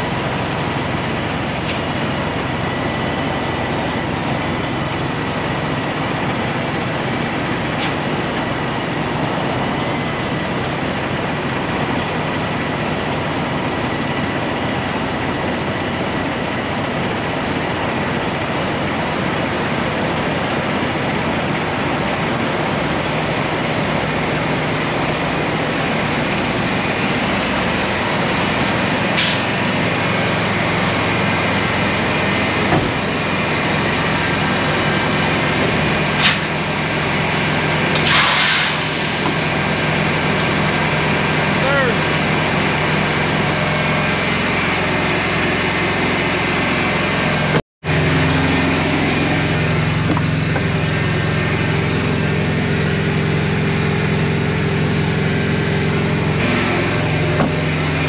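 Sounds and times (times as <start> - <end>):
diesel truck engine running: 0.0 - 58.0
road noise: 0.0 - 58.0.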